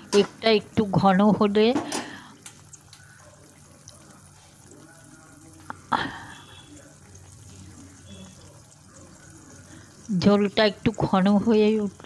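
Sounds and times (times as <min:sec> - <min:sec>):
gravy simmering and bubbling: 0:00.0 - 0:12.0.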